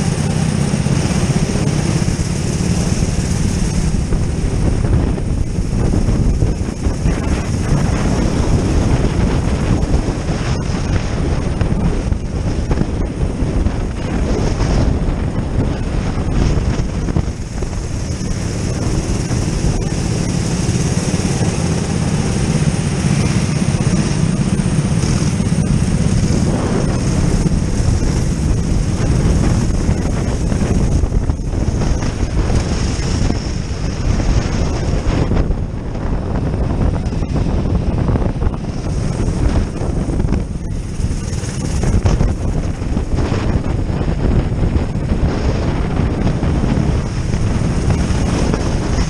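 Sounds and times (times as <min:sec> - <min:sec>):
go-kart engine running: 0:00.0 - 0:49.0
wind buffeting microphone: 0:00.0 - 0:49.0.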